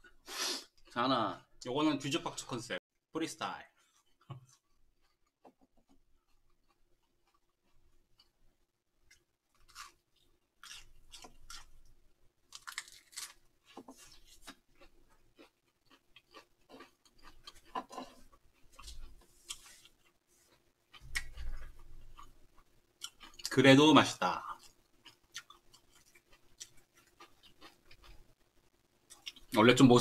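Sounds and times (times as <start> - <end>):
person chewing food: 3.8 - 23.5, 24.4 - 29.6.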